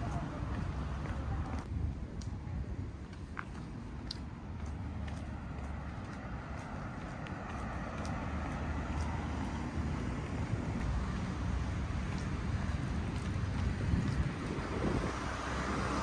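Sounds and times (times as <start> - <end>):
wind buffeting microphone: 0.0 - 16.0
passing cars: 2.7 - 16.0.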